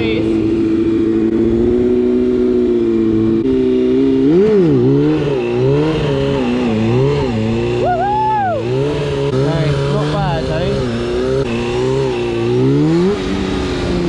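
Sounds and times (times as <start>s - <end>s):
high tone rising and falling: 0.0s - 14.0s
motorcycle engine revving: 0.0s - 14.0s.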